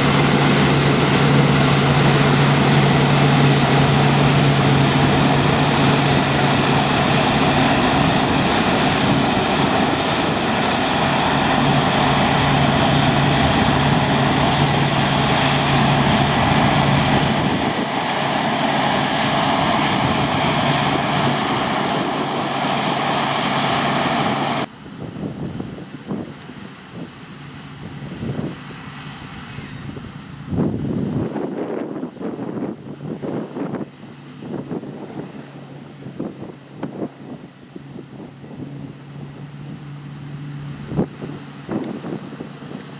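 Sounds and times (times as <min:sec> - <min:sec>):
diesel farm machinery running: 0:00.0 - 0:31.6, 0:32.8 - 0:42.9
faint wind noise on microphone: 0:00.0 - 0:42.9.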